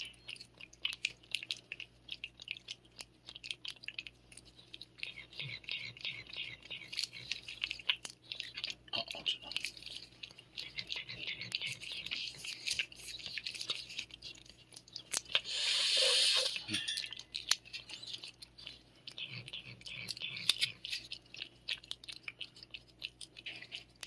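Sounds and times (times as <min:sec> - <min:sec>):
cat licking: 0:00.0 - 0:24.0.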